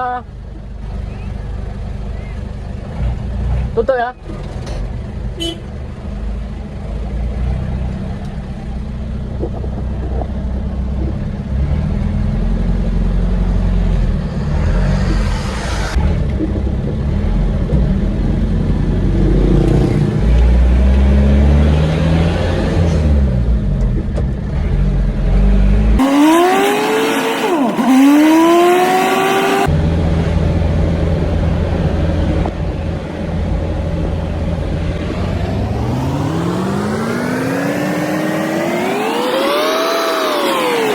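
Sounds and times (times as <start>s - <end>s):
truck engine running: 0.0s - 26.2s, 27.6s - 40.9s.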